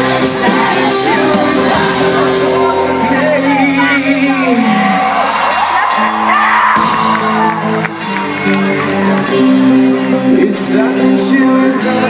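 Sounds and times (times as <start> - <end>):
crowd shouting and whooping: 0.0 - 10.5
live rock band playing: 0.0 - 12.0.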